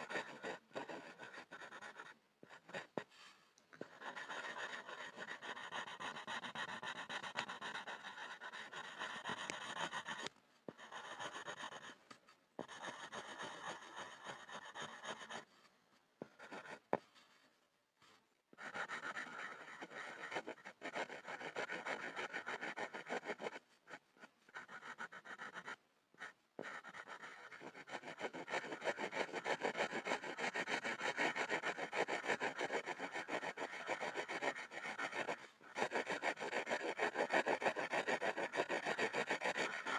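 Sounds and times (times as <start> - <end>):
pencil scribbling on wood: 0.0 - 3.1, 3.8 - 12.0, 12.6 - 15.6, 16.2 - 39.9.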